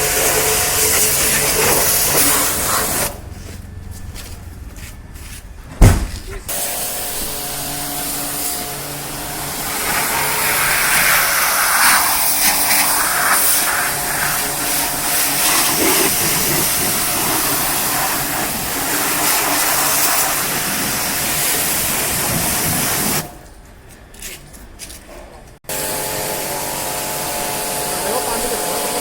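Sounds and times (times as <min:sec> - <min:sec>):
pressure washer water jet hissing: 0:00.0 - 0:03.3, 0:06.5 - 0:23.3, 0:25.7 - 0:29.0.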